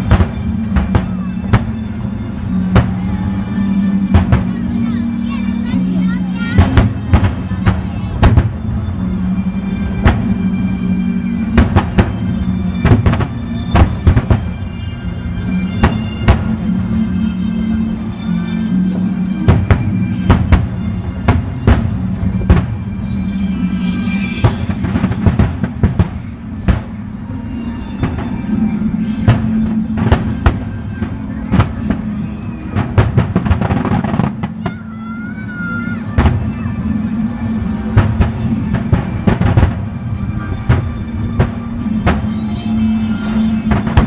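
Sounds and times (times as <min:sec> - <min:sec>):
firework bangs: 0:00.0 - 0:05.0, 0:05.6 - 0:10.6, 0:11.2 - 0:14.7, 0:15.6 - 0:16.7, 0:19.0 - 0:23.2, 0:24.0 - 0:36.8, 0:37.5 - 0:44.0
music with low held notes: 0:00.0 - 0:44.0.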